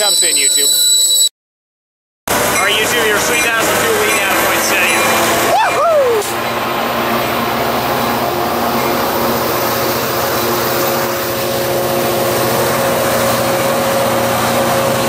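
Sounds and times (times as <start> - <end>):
diesel locomotive engine droning: 2.3 - 15.0.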